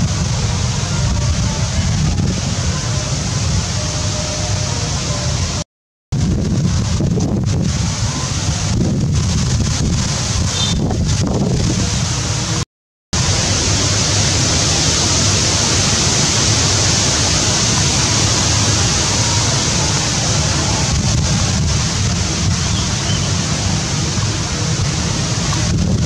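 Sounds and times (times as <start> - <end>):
wind noise on microphone: 0.0 - 12.6, 13.2 - 26.0.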